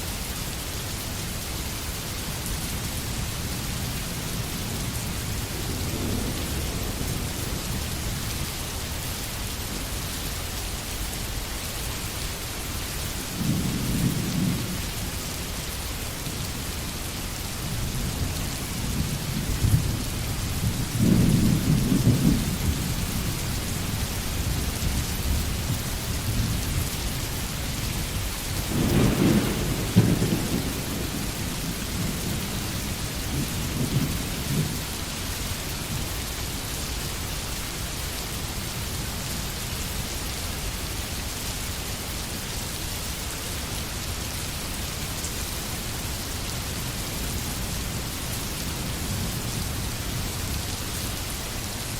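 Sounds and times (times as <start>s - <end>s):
steady rain in a forest: 0.0s - 51.9s.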